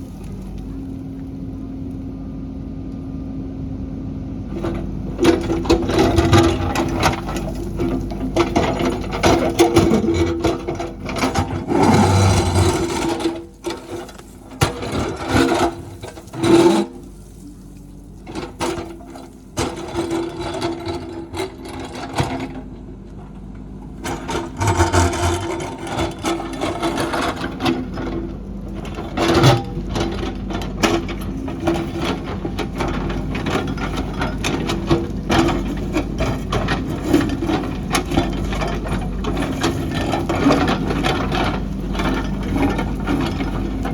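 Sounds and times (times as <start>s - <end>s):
engine hum: 0.0s - 43.9s
scraping clattering and knocking: 4.5s - 43.9s.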